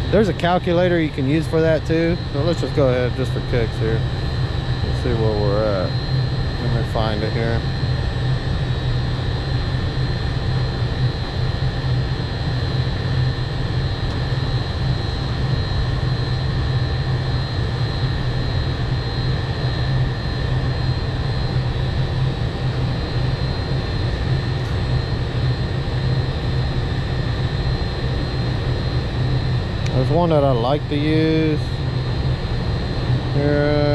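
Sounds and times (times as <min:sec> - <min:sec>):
fan noise: 0:00.0 - 0:33.9
high-pitched whine: 0:00.0 - 0:33.9
low hum: 0:00.0 - 0:33.9.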